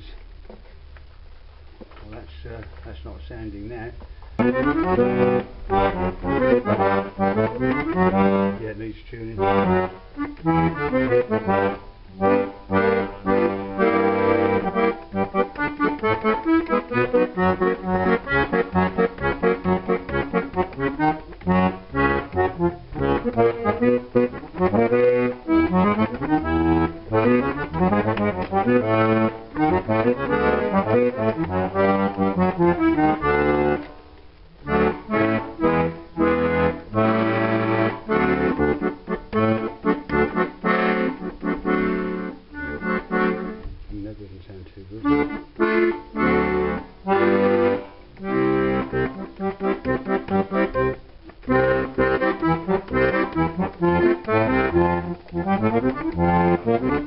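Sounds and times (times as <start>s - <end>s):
accordion bass notes and chords: 0.0s - 57.0s.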